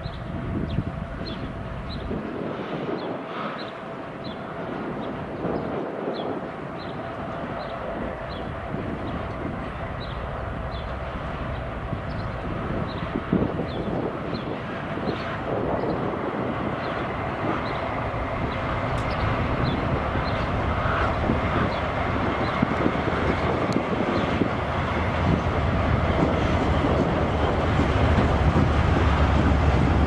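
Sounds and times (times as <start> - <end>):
train wheels rumbling on rails: 3.8 - 30.0.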